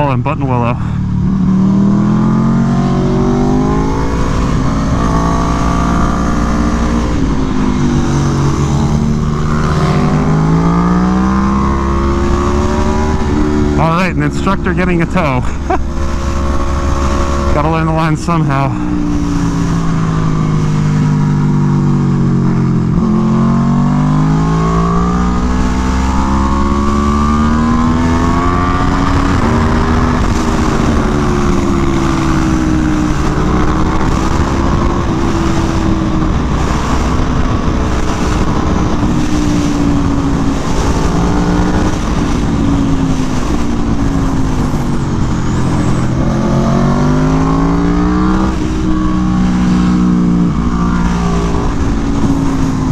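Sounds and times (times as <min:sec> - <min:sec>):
motorcycle engine revving: 0:00.0 - 0:52.9
wind rush: 0:01.0 - 0:52.9.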